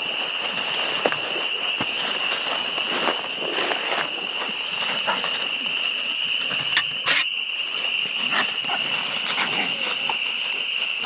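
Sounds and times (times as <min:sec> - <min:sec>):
dogs scuffling and growling: 0:00.0 - 0:07.2, 0:07.8 - 0:11.0
rustles and snaps in dry leaves: 0:00.0 - 0:11.0
steady high-pitched whine: 0:00.0 - 0:11.0.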